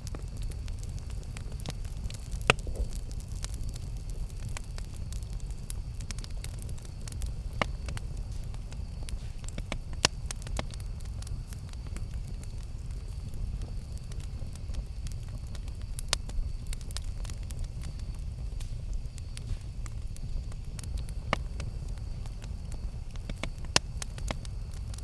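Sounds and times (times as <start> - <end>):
campfire popping and snapping: 0.0 - 25.0
low rumble of fire: 0.0 - 25.0.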